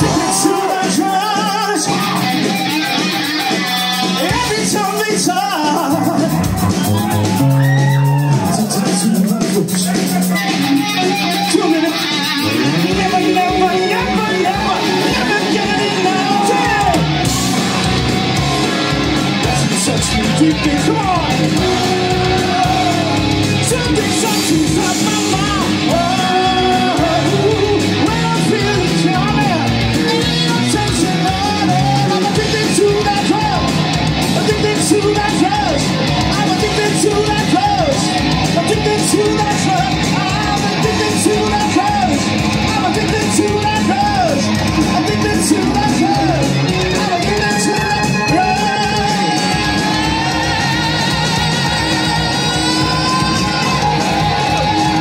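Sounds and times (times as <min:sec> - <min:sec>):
bass and electric guitar: 0:00.0 - 0:55.0
drum beat: 0:00.0 - 0:55.0
singer's voice: 0:00.0 - 0:55.0.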